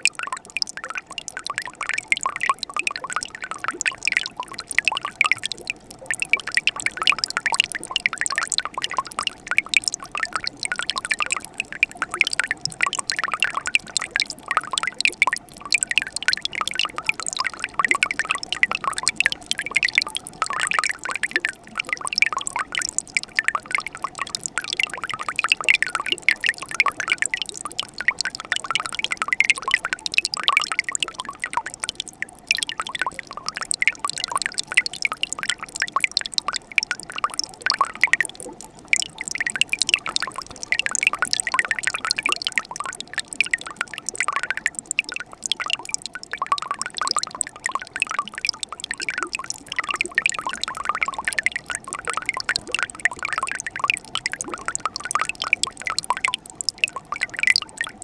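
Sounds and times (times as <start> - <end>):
stream trickling around ice: 0.0 - 58.0.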